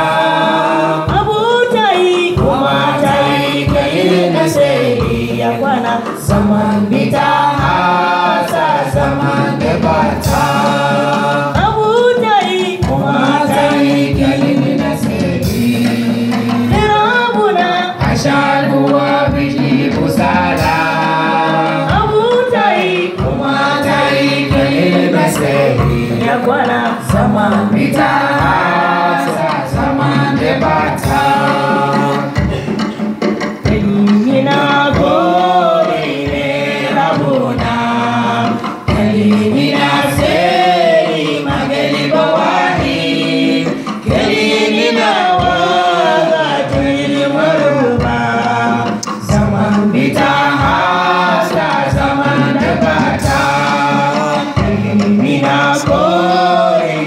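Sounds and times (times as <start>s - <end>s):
group singing gospel song: 0.0s - 57.0s
steady drum beat: 0.0s - 57.0s.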